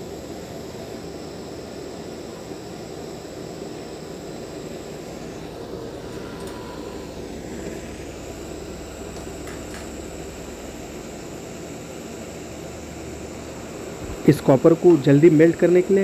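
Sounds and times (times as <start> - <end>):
gas torch burning: 0.0 - 16.0.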